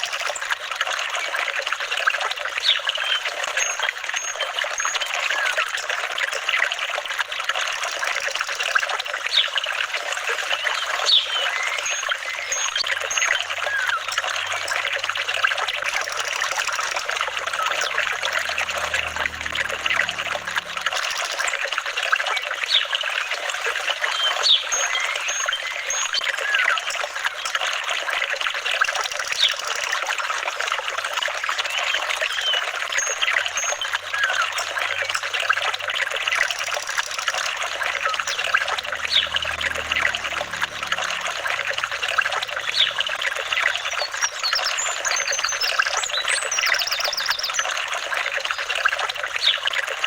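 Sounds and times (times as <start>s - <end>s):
small bubbling plinks: 0.0s - 50.0s
water trickling and babbling: 0.0s - 50.0s.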